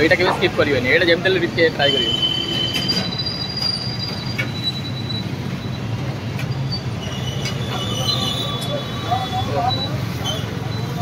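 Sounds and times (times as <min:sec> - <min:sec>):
thin high squealing tones: 0:01.8 - 0:11.0.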